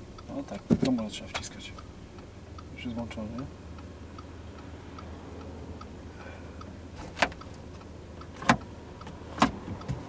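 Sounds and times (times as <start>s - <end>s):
faint regular ticking: 0.0s - 9.9s
car engine idling: 0.0s - 10.0s.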